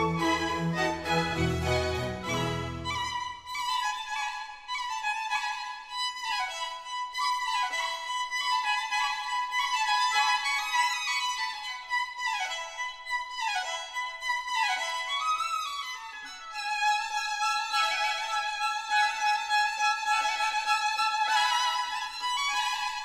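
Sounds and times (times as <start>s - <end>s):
high violin melody: 0.0s - 23.0s.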